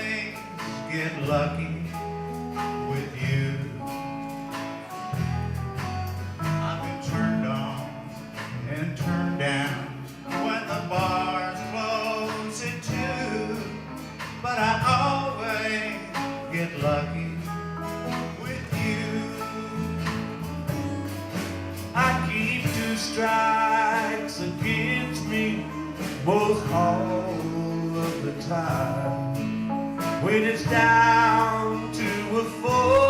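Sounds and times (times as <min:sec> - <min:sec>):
guitars and bass playing: 0:00.0 - 0:33.0.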